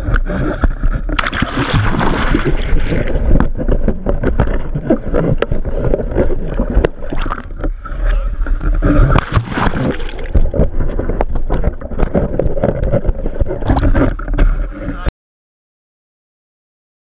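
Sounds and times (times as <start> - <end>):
water rushing and gurgling: 0.0 - 15.1
splashing: 1.1 - 14.8.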